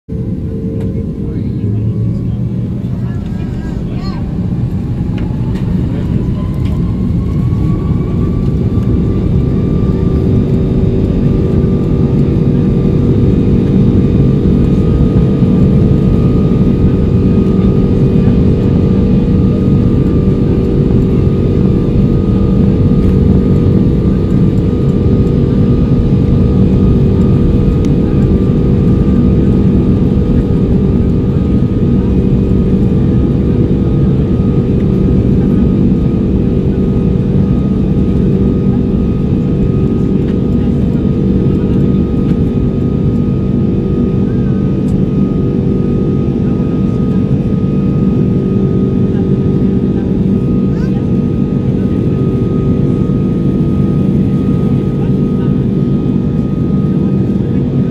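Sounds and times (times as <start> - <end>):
jet engine roar with fan whine: 0.1 - 57.9.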